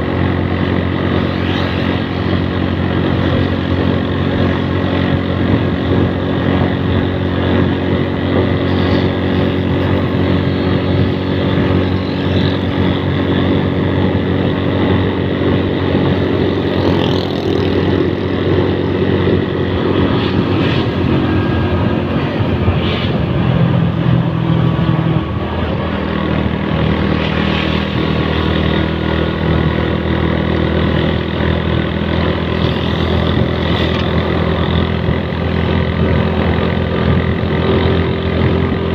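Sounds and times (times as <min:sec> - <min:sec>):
road and wind noise: 0:00.0 - 0:38.9
vehicle engine cruising: 0:00.0 - 0:38.9.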